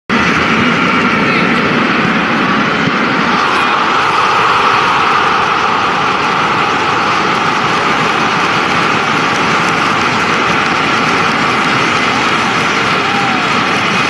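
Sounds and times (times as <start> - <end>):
stadium crowd cheering: 0.1 - 14.0.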